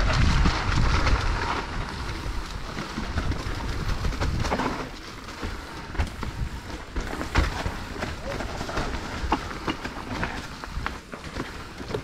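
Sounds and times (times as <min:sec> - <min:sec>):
bike knocks and rattles: 0:00.0 - 0:12.0
bike tyres on dirt and stones: 0:00.0 - 0:12.0.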